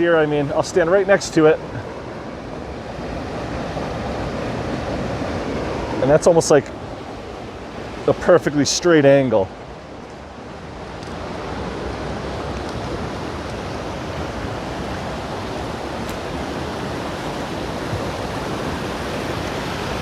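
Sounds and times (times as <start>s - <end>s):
creek water rushing over rocks: 0.4s - 20.0s.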